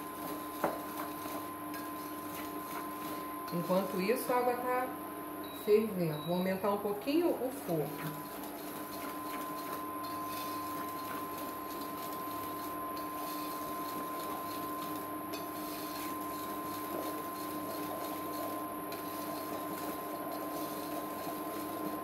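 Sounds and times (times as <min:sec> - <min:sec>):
whisk beating batter in a bowl: 0:00.0 - 0:04.0, 0:08.0 - 0:22.0
mechanical hum: 0:00.0 - 0:22.0.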